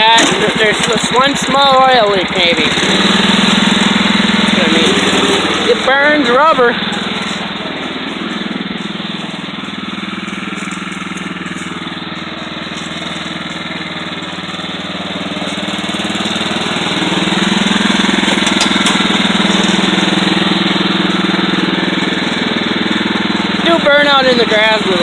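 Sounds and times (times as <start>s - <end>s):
riding lawn mower engine running: 0.0s - 25.0s.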